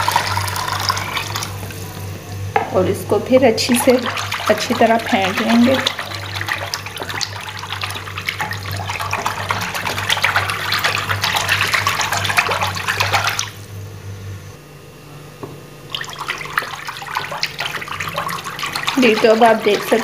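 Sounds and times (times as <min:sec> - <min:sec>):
wet sloshing churn: 0:00.0 - 0:14.4, 0:15.8 - 0:20.0.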